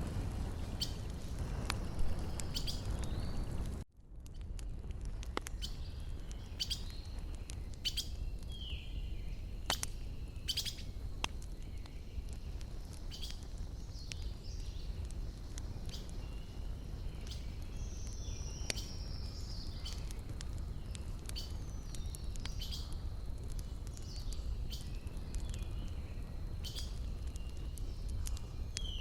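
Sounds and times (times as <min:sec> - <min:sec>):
wood fire crackling and popping: 0:00.0 - 0:29.0
small birds chirping: 0:01.8 - 0:03.5, 0:05.4 - 0:29.0.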